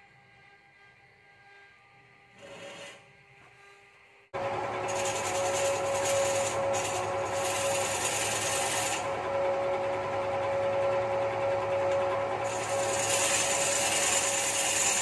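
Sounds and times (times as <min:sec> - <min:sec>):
wood lathe humming: 0:00.0 - 0:15.0
chisel scraping spinning wood: 0:00.4 - 0:03.9, 0:04.6 - 0:15.0.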